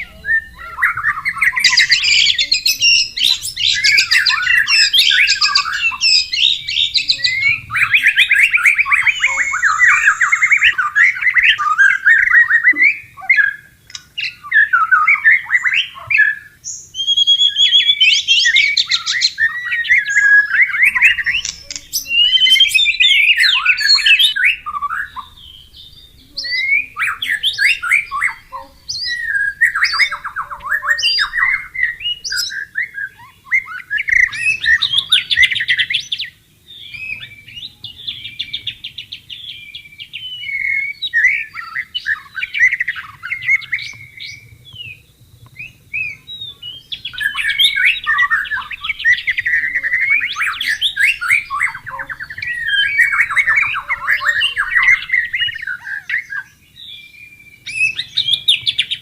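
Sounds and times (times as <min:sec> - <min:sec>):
songbird trilling and whistling: 0:00.0 - 0:59.0.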